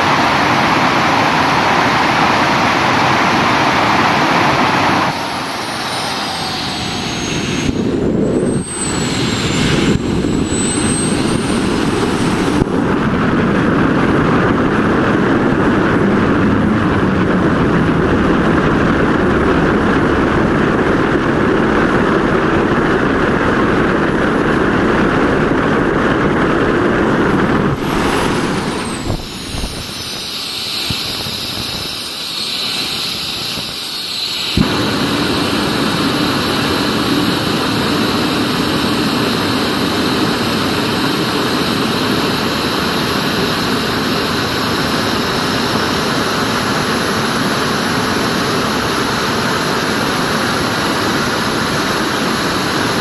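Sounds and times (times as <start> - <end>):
high turbine whine: 0.0 - 53.0
turbojet engine roaring: 0.0 - 53.0.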